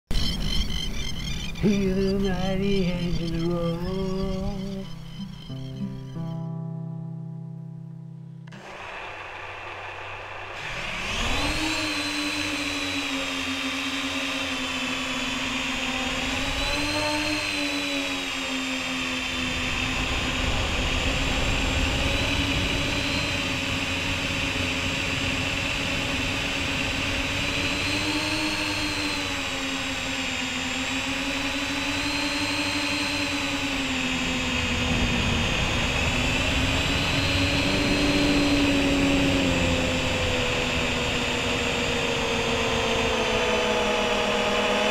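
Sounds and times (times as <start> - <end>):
drone motors whining: 0.1 - 6.4, 8.5 - 44.9.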